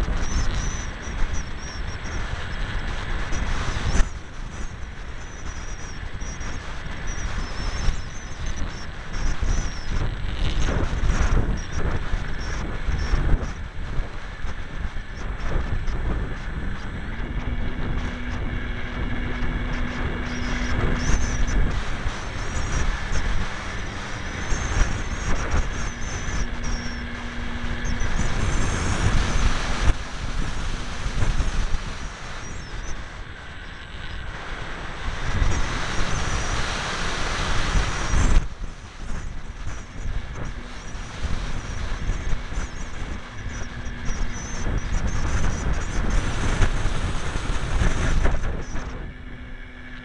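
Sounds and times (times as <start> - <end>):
electric motor and propeller whine: 0.0 - 50.0
steady low hum: 0.0 - 50.0
wind buffeting microphone: 0.0 - 50.0.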